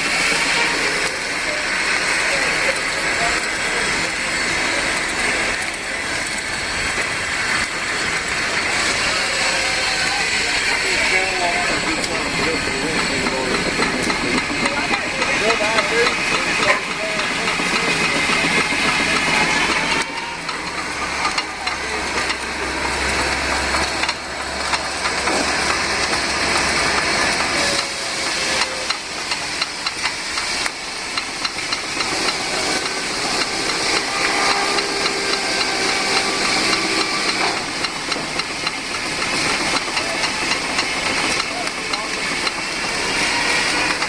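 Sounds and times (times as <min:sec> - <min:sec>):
steam engine sharp beats: 0:00.0 - 0:44.0
steam hissing: 0:00.0 - 0:44.0.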